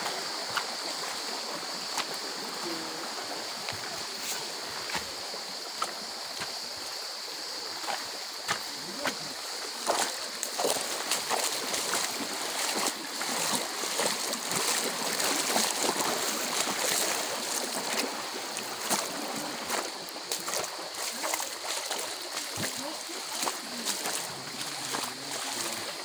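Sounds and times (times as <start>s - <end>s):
feet wading through water: 0.0s - 26.0s
stream running over stones: 0.0s - 26.0s.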